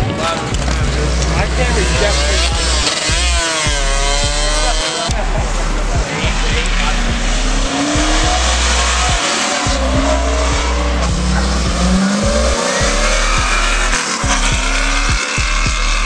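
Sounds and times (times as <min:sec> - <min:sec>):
cars driving past revving: 0:00.0 - 0:16.0
electronic music with bass beat: 0:00.0 - 0:16.0.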